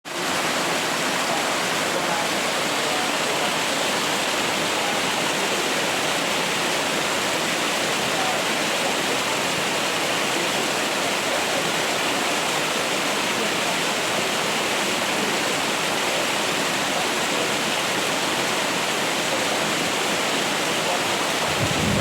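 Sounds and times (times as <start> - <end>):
rainwater rushing: 0.0 - 22.0.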